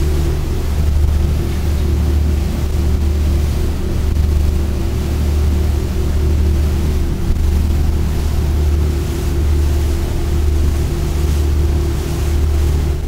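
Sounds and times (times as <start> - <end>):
boat diesel engines droning: 0.0 - 13.0
rushing water: 0.0 - 13.0.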